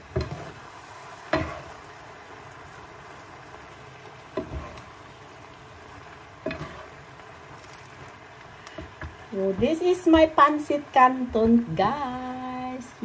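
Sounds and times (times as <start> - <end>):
noodles sizzling in a frying pan: 0.0 - 13.0.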